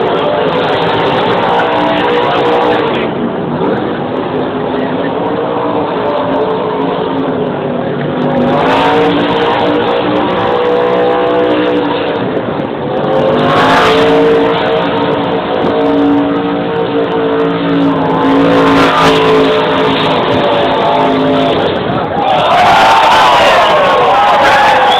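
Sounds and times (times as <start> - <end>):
race car engine revving: 0.0 - 24.9.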